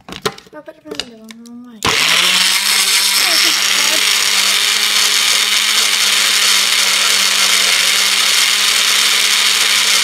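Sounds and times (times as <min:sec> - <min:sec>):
blender whirring: 0:01.8 - 0:10.0.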